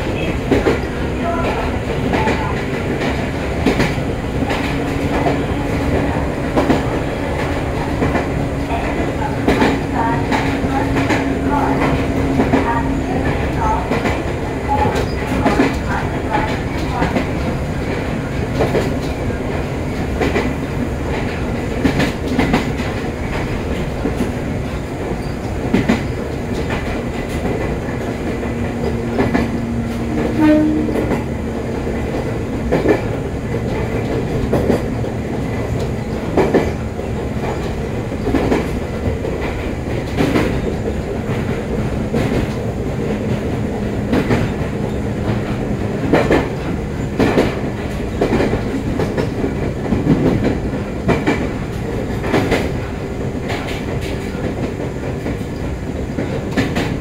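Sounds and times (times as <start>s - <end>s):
train rumble and hum: 0.0s - 57.0s.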